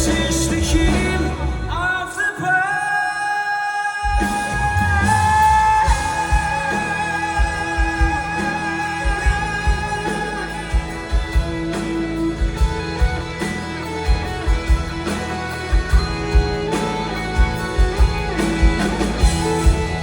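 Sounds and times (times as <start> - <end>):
live rock band playing: 0.0 - 2.0, 4.1 - 20.0.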